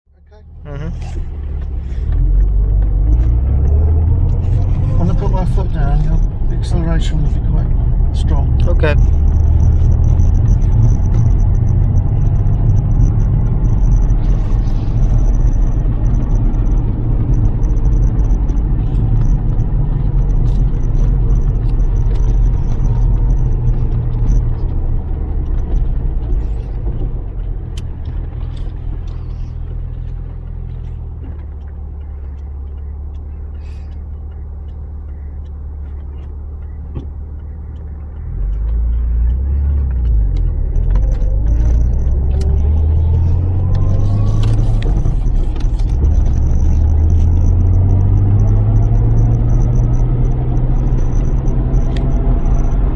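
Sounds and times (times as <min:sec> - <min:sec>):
car engine rumbling: 0:00.0 - 0:52.9
road noise: 0:00.0 - 0:52.9.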